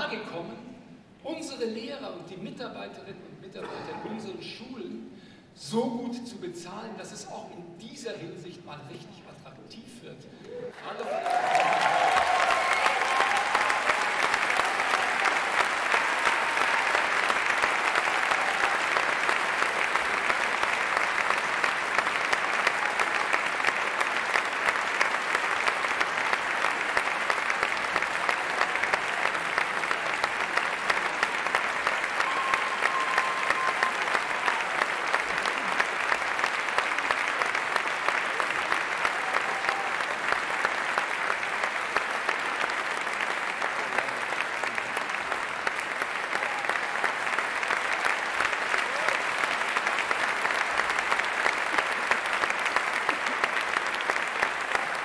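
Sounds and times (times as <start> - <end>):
audience applauding: 10.4 - 55.0.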